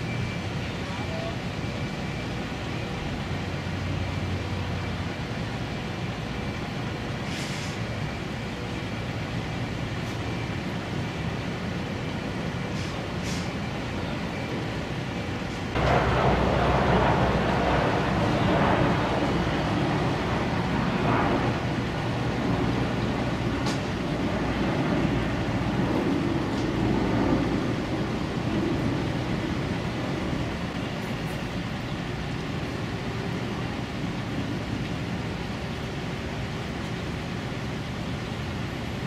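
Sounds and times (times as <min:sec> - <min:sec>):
ship low rumble: 0:00.0 - 0:39.0.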